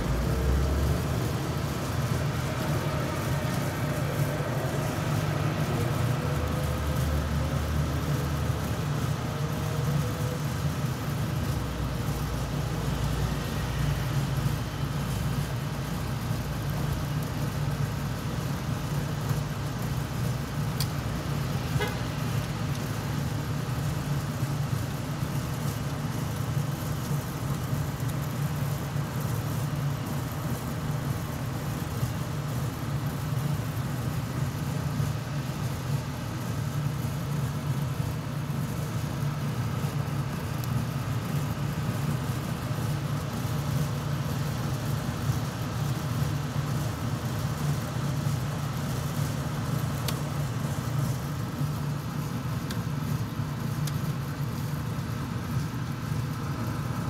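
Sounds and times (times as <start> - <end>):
low city hum: 0.0 - 57.0.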